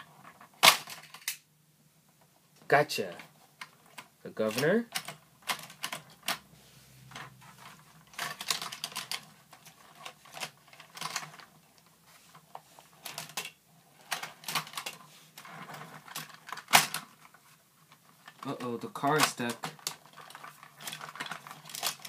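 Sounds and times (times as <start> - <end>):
toy cars clicking and clattering: 0.1 - 1.4, 3.2 - 6.4, 7.2 - 22.0.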